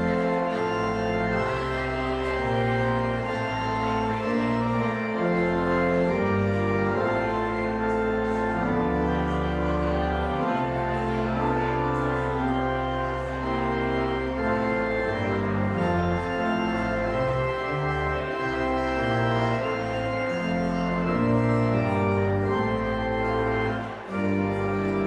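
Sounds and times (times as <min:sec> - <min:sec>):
organ chords over bass notes: 0:00.0 - 0:25.0.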